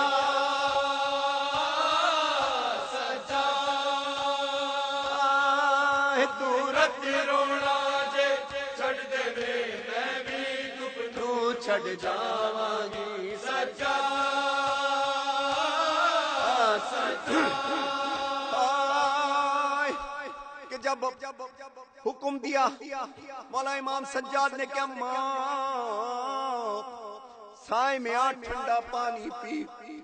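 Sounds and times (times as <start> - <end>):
man chanting a lament: 0.0 - 30.0.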